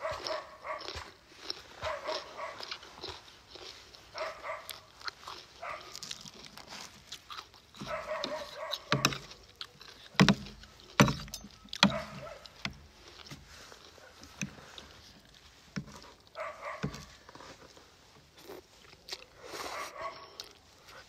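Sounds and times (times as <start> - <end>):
chewing crunches: 0.0 - 21.0.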